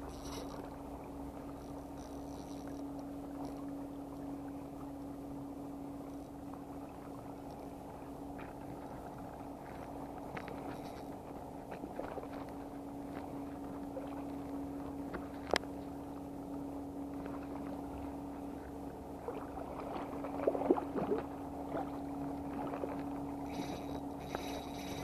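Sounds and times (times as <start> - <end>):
small clicks and crackles: 0.0 - 5.2, 6.0 - 16.1, 17.0 - 25.0
fishing reel gear whirr: 0.0 - 19.2, 21.2 - 25.0.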